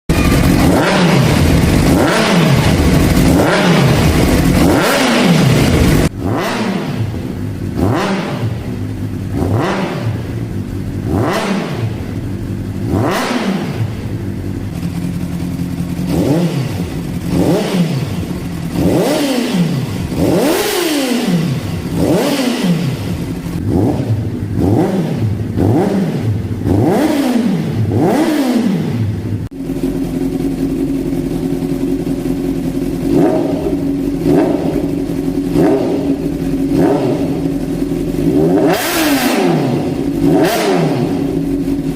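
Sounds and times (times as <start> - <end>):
motorcycle engine revving: 0.1 - 41.9.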